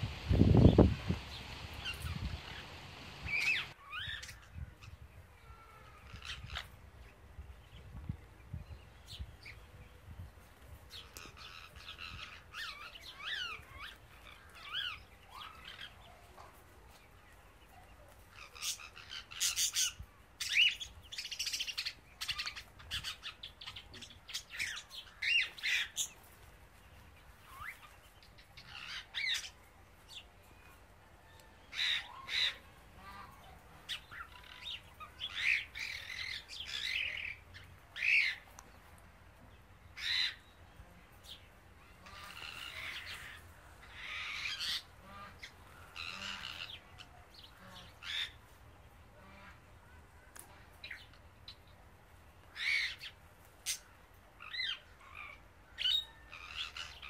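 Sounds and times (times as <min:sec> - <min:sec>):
birds chirping and squawking: 0:00.0 - 0:07.2, 0:10.9 - 0:17.1, 0:18.3 - 0:30.8, 0:31.4 - 0:38.7, 0:39.8 - 0:48.6, 0:52.4 - 0:57.0.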